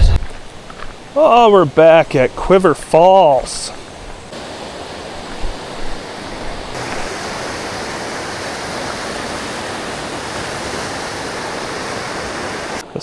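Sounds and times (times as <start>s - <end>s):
river water rushing over rapids: 1.0s - 13.0s.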